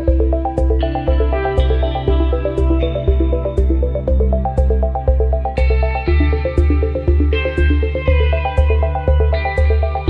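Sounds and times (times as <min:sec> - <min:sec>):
background music with deep beat: 0:00.0 - 0:10.0.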